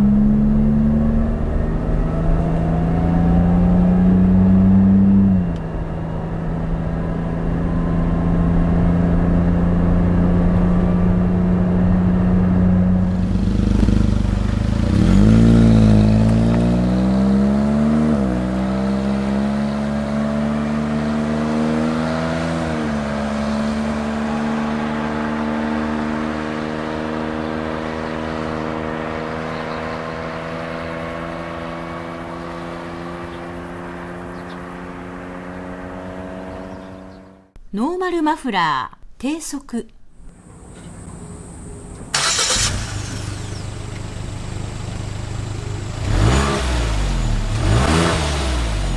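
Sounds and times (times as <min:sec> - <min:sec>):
car engine accelerating: 0:00.0 - 0:37.6, 0:40.4 - 0:48.9.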